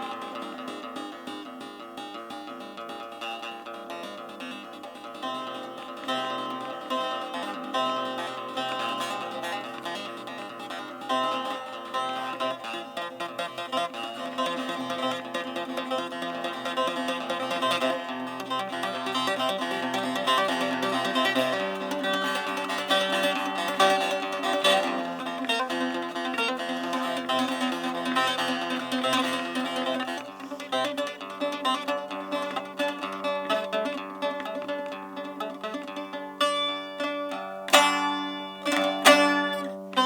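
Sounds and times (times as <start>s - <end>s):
plucked string instrument: 0.0s - 40.0s.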